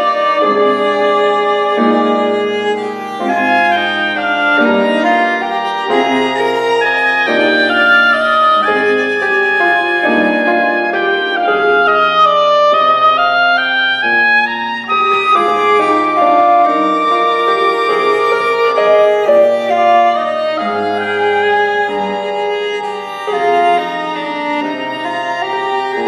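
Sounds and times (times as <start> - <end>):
oboe: 0.0 - 26.0
piano: 0.0 - 26.0
viola: 0.0 - 26.0.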